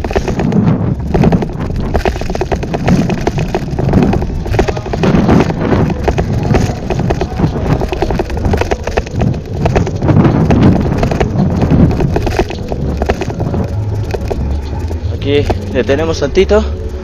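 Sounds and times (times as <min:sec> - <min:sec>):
bicycle rattling over pavement: 0:00.0 - 0:17.0
wind rumble on microphone: 0:00.0 - 0:17.0.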